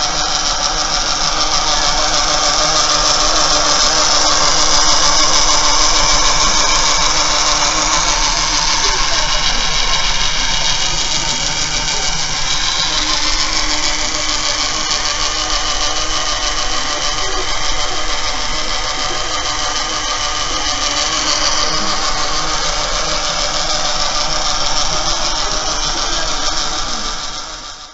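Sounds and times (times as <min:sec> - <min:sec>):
small electric motor whirring: 0:00.0 - 0:27.9.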